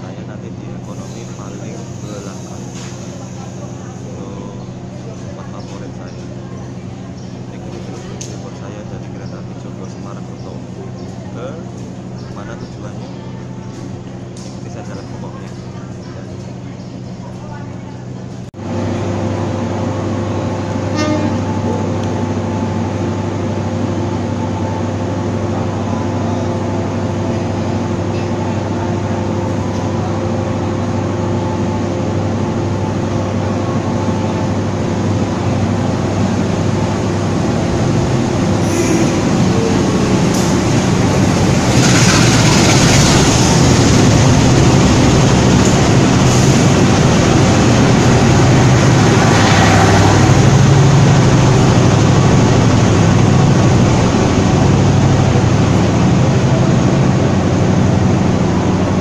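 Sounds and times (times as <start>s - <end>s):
diesel train engine hum: 0.0s - 59.0s.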